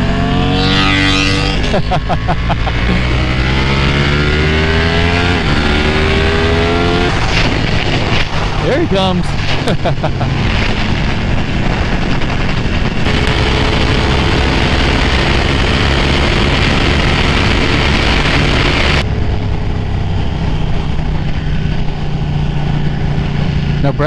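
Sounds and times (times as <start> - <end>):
motorcycle engine running: 0.0 - 9.1, 10.8 - 23.4.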